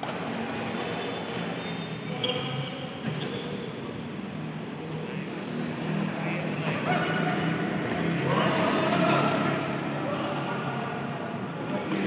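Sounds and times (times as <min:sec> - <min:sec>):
echoing sports hall murmur: 0:00.0 - 0:12.0.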